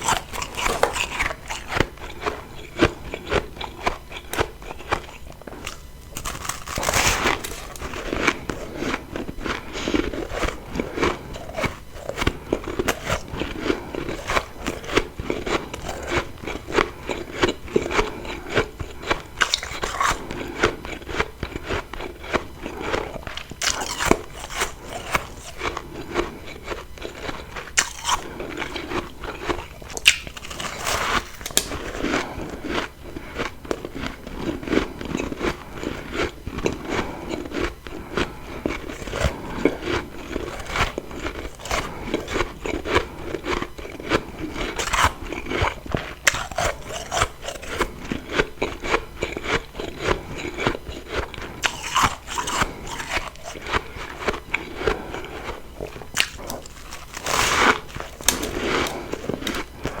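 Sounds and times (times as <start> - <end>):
crunchy chewing of frost: 0.0 - 60.0.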